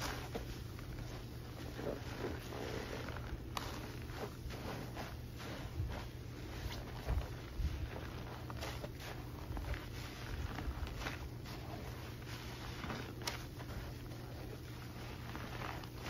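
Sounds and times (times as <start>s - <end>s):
wet sponge squelches: 0.0s - 16.0s.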